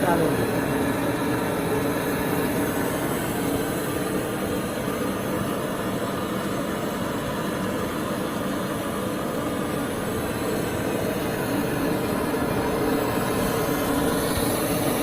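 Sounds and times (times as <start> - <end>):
machinery low hum: 0.0 - 15.0.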